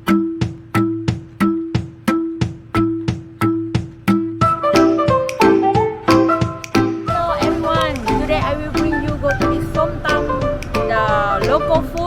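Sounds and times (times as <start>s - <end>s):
music with percussive beat: 0.0s - 12.0s.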